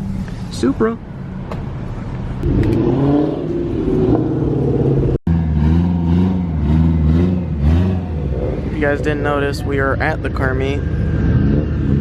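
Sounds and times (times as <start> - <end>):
car engine revving: 1.4 - 12.0.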